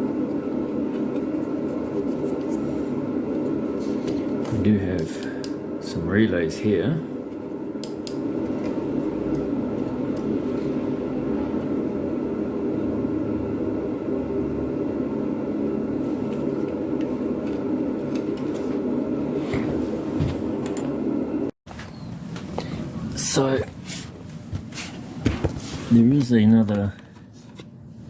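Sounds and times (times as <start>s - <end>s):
mechanical hum and whir: 0.0s - 28.0s.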